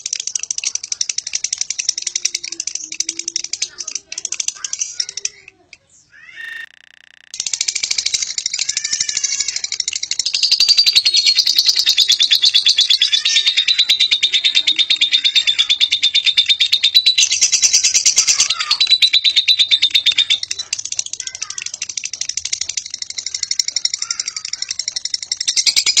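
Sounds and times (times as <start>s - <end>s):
lovebird chattering trill: 0.0s - 26.0s.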